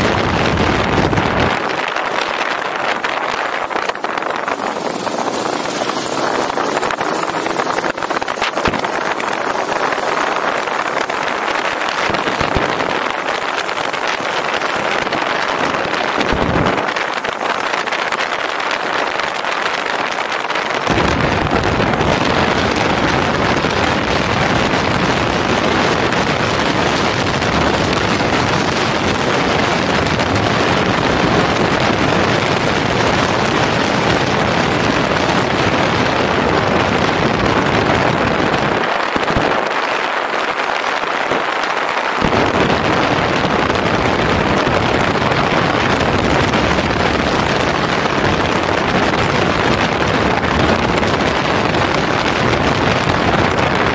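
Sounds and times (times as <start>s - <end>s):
motorcycle engine rumble: 0.0s - 53.9s
wind rushing over microphone: 0.0s - 53.9s.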